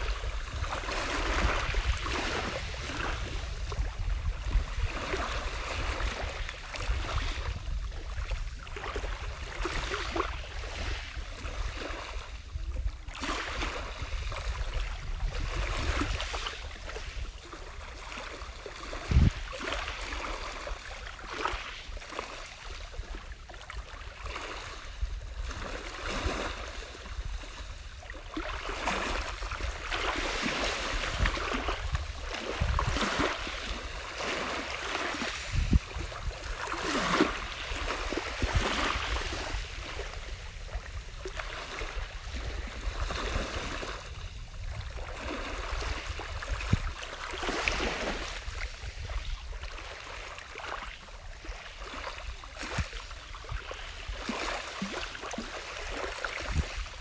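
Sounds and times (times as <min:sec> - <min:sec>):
small sea waves splashing: 0:00.0 - 0:57.0.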